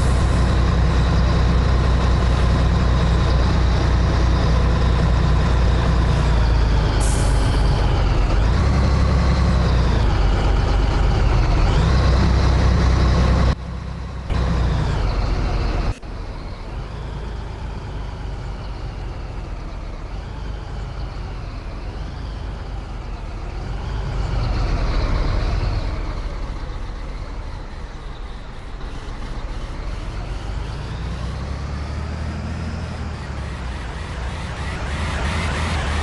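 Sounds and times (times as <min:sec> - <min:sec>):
high engine whine: 0:00.0 - 0:36.0
truck diesel engine rumbling: 0:00.0 - 0:36.0.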